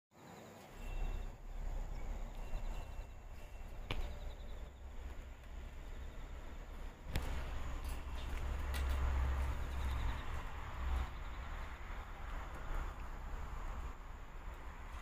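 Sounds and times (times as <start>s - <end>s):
high insect trill: 0.2s - 12.8s.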